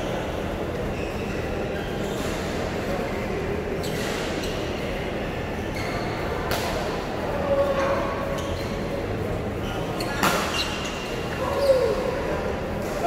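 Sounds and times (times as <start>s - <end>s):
steady hall rumble: 0.0s - 10.0s, 10.9s - 13.0s.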